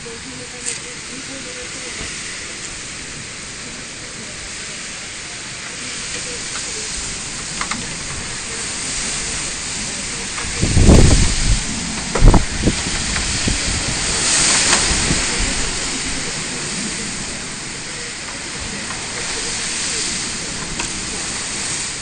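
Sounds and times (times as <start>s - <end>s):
strong wind gusts hissing: 0.0s - 22.0s
wind buffeting microphone: 0.0s - 22.0s.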